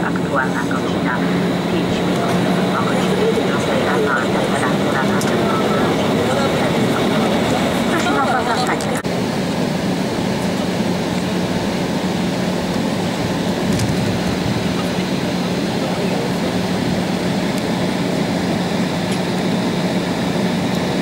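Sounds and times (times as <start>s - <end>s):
aircraft cabin engine hum: 0.0s - 21.0s.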